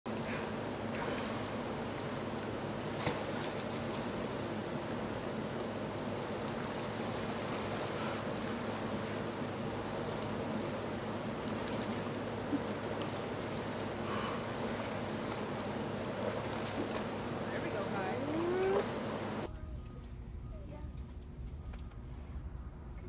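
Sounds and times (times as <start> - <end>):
dolphins splashing: 0.1 - 19.5
water rushing and sloshing: 0.1 - 19.5.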